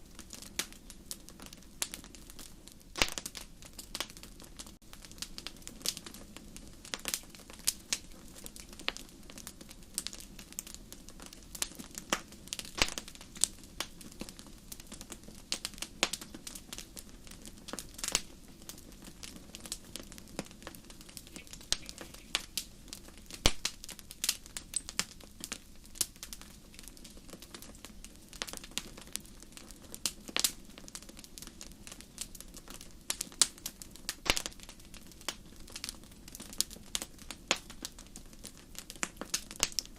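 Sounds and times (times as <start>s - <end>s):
fire crackling and popping: 0.0s - 39.9s
low rush of flames: 0.0s - 39.9s.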